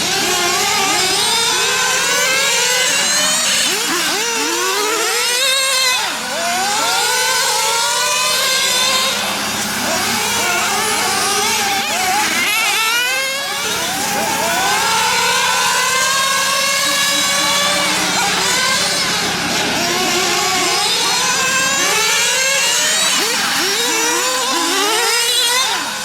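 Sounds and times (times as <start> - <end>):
radio-controlled car engines whining: 0.0 - 26.0.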